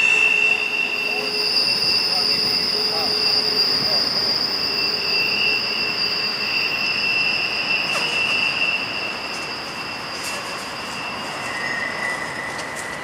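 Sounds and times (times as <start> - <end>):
high-pitched wheel squeal: 0.0 - 13.0
train wheels rushing on rails: 0.0 - 13.0.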